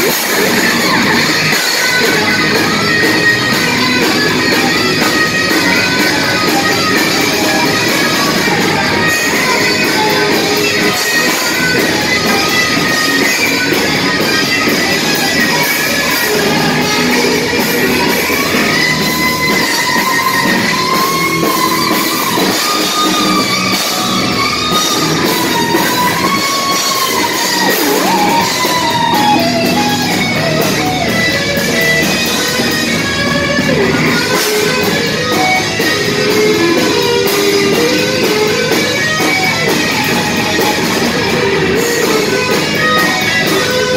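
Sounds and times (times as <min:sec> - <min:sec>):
bass guitar: 0:00.0 - 0:43.9
drums: 0:00.0 - 0:43.9
electric guitar lead line: 0:00.0 - 0:43.9.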